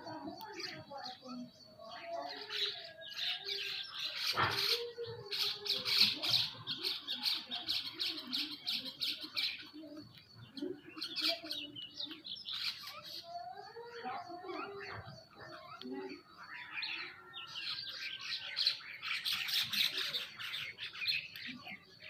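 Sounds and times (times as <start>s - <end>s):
birds squawking and chirping: 0.0s - 22.0s.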